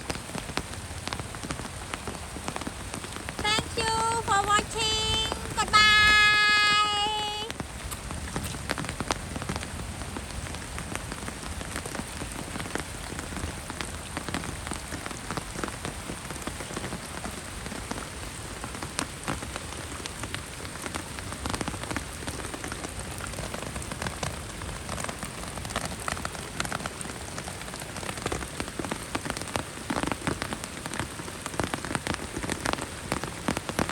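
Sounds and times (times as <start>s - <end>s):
heavy rain hissing: 0.0s - 33.9s
raindrops pattering on surfaces: 0.0s - 33.9s.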